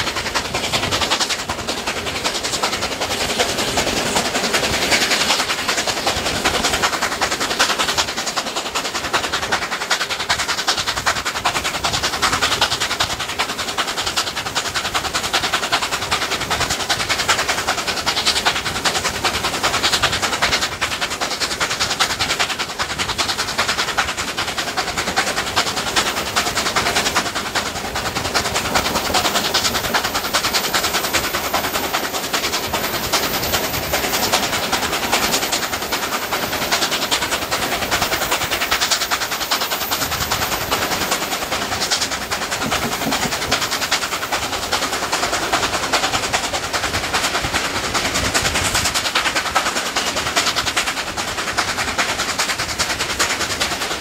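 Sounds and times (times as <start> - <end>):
rushing wind: 0.0 - 54.0
steam locomotive exhaust beats: 0.0 - 54.0
wheels clattering on rails: 0.0 - 54.0.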